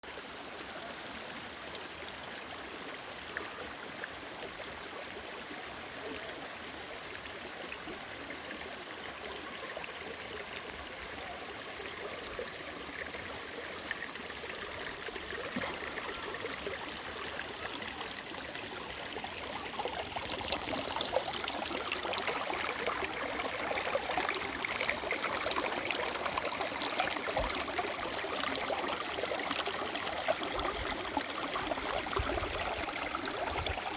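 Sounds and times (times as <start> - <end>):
running water: 0.0 - 33.9.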